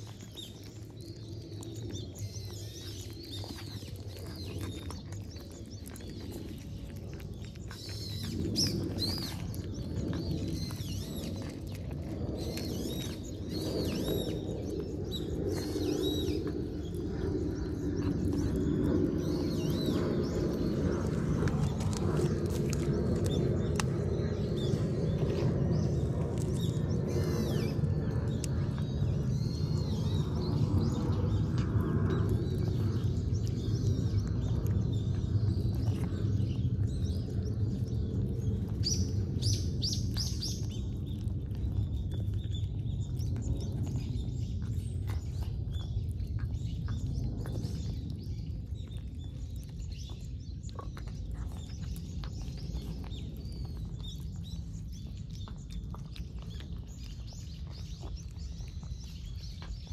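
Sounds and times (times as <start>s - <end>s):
small birds chirping: 0.0s - 59.9s
steady low rumble: 0.0s - 59.9s.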